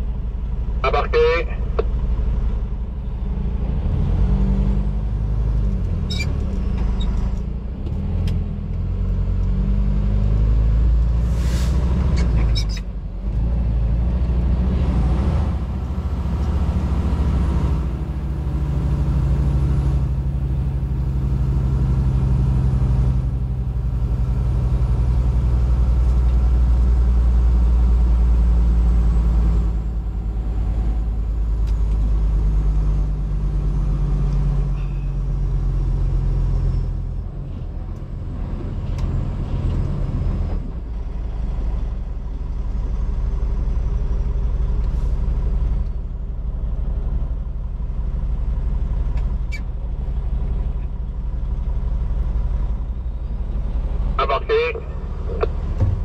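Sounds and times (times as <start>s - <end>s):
truck diesel engine under load: 0.0s - 56.0s.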